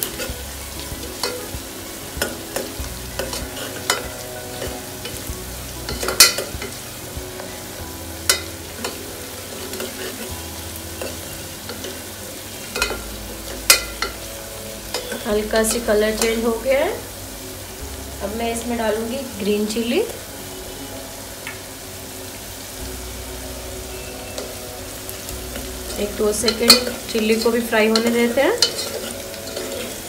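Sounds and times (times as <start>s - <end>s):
paste sizzling in hot oil: 0.0s - 30.0s.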